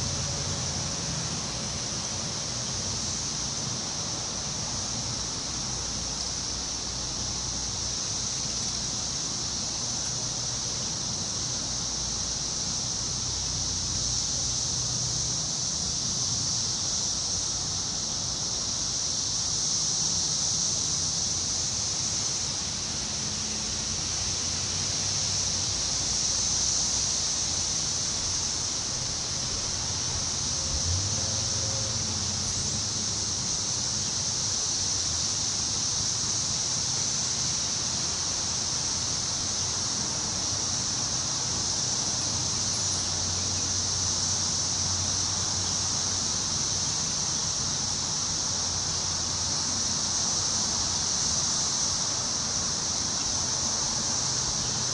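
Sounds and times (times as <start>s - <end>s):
steady high-pitched hiss: 0.0s - 54.9s
wind rustling forest trees: 0.0s - 54.9s.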